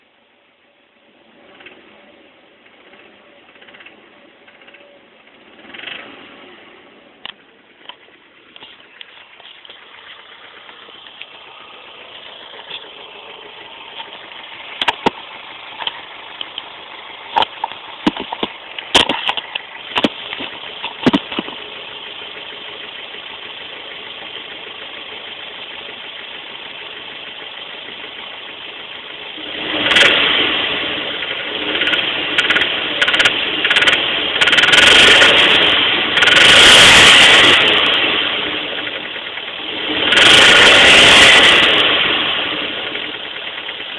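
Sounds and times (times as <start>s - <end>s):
car engine idling and revving: 0.0s - 43.9s
engine knocking: 2.8s - 4.9s, 7.9s - 43.9s.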